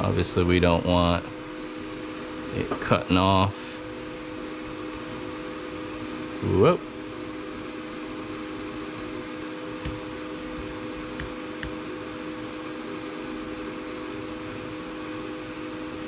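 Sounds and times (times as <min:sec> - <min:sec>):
laser cutter fans humming: 0:00.0 - 0:16.0.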